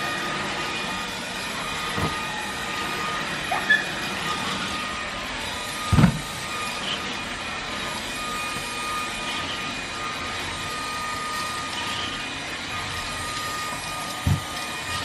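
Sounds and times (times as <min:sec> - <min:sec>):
stick vacuum running on carpet: 0:00.0 - 0:15.0.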